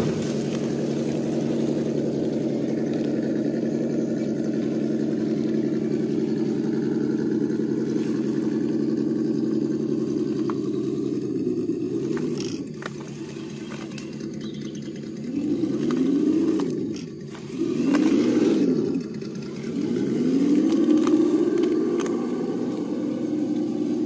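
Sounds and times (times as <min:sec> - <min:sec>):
toy crawler motor humming: 0:00.0 - 0:24.0.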